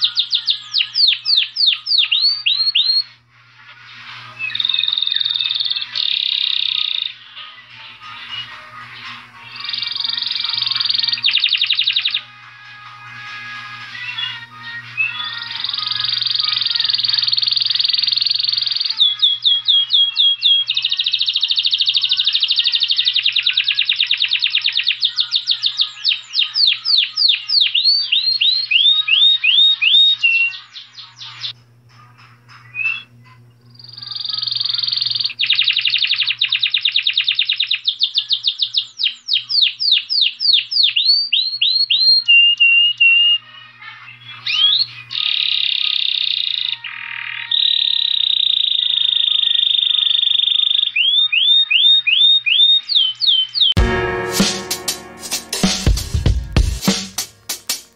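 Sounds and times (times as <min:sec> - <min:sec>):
finch singing trills: 0:00.0 - 0:03.1, 0:04.2 - 0:07.4, 0:08.0 - 0:12.3, 0:14.0 - 0:31.6, 0:32.6 - 0:33.2, 0:33.8 - 0:53.8.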